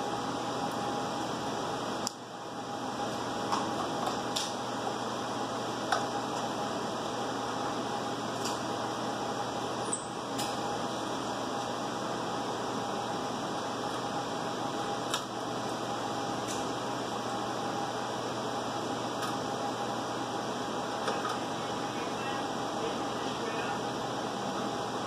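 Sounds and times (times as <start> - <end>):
fan hum with faint whine: 0.0 - 25.0.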